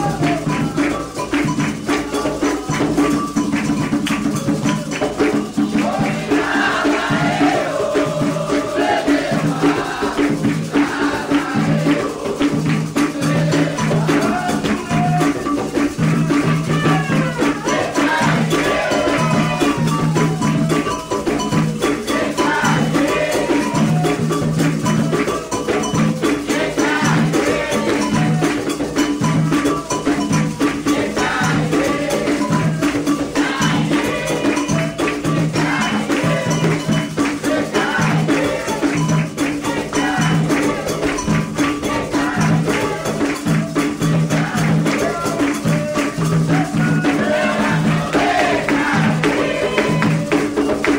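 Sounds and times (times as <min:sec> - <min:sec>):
drum rhythm: 0:00.0 - 0:50.9
rattles shaking: 0:00.0 - 0:50.9
voices singing: 0:00.0 - 0:50.9.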